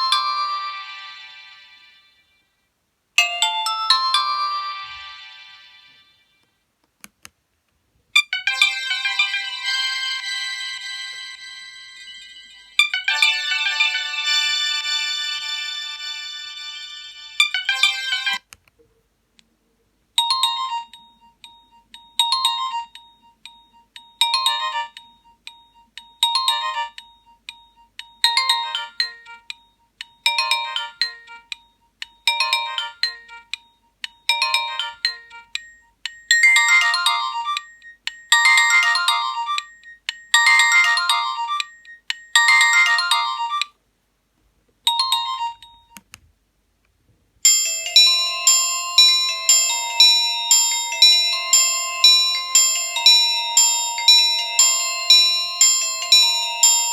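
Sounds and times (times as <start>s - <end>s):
mobile phone ringtone: 3.2s - 6.1s, 8.2s - 18.4s, 20.2s - 43.8s, 47.5s - 56.9s.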